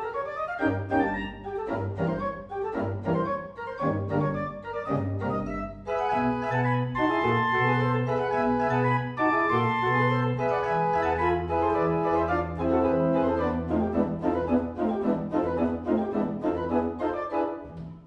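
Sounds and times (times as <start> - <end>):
pipe organ playing: 0.2 - 17.8.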